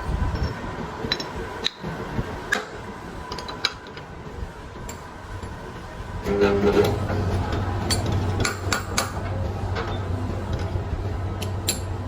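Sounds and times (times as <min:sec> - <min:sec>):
workshop machine humming: 0:00.0 - 0:12.0.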